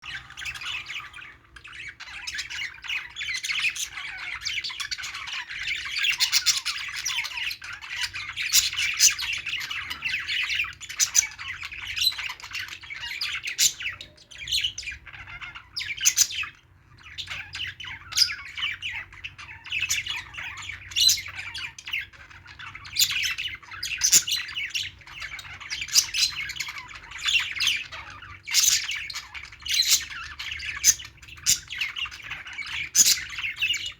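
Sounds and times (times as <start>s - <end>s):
budgerigars chattering and chirping: 0.0s - 33.9s.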